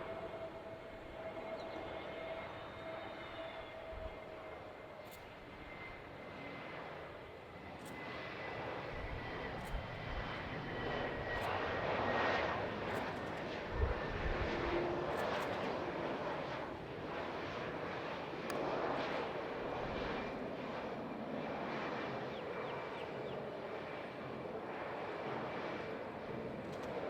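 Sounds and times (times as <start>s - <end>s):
jet airliner engines passing: 0.0s - 27.0s.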